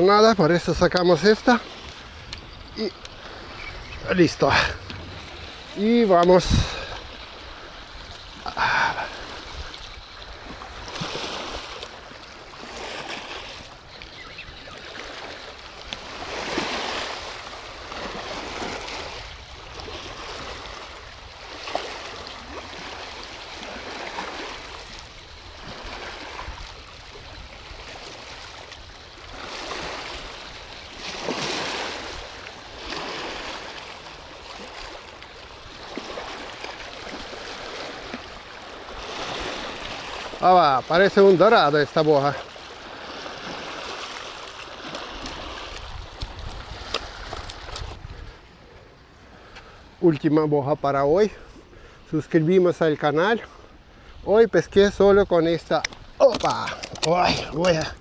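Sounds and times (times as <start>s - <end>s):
river water lapping: 0.0s - 58.0s.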